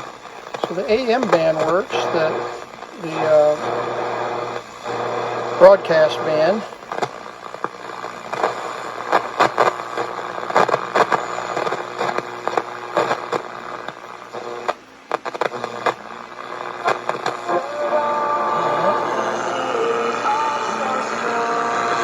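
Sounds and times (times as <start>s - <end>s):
radio static crackling: 0.0s - 22.0s
steady hum: 0.0s - 22.0s
radio station tones: 0.3s - 22.0s.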